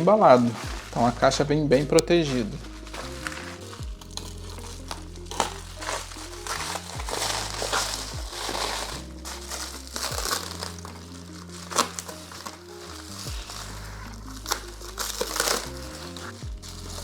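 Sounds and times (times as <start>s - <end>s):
background music with bass line: 0.0s - 17.0s
bubble wrap crinkling: 0.0s - 17.0s.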